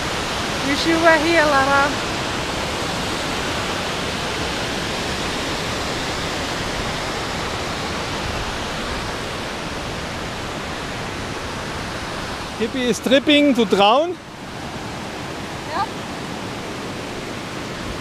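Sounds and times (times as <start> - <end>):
waterfall crashing: 0.0 - 18.0.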